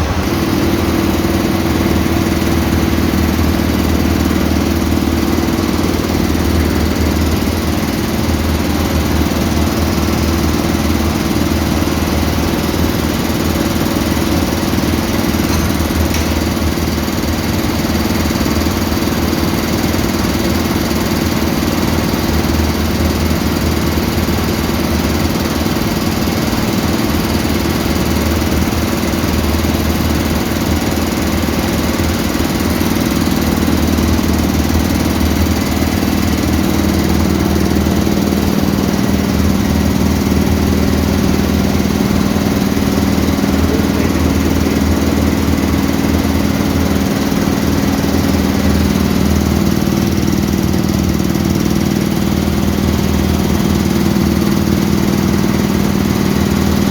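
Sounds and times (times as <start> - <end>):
air compressor humming: 0.0 - 56.9.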